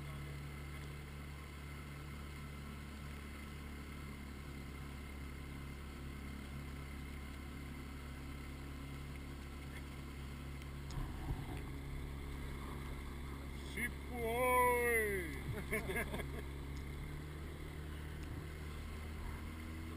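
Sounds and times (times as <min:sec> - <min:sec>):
outboard motor droning: 0:00.0 - 0:19.9.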